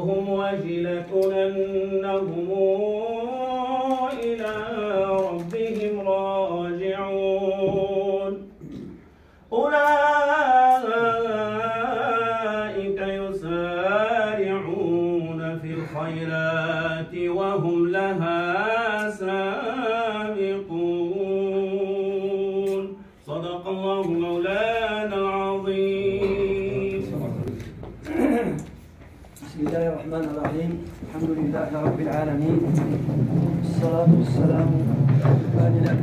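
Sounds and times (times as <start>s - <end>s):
man chanting: 0.0s - 8.5s, 9.5s - 28.7s, 29.4s - 36.0s.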